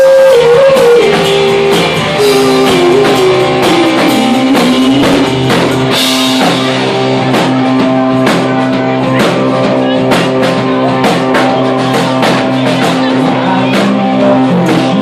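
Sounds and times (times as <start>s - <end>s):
drum hits: 0.0s - 15.0s
guitar chords: 0.0s - 15.0s.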